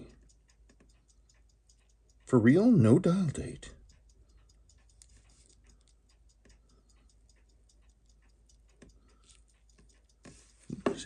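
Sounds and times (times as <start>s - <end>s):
watch ticking: 0.0s - 11.0s.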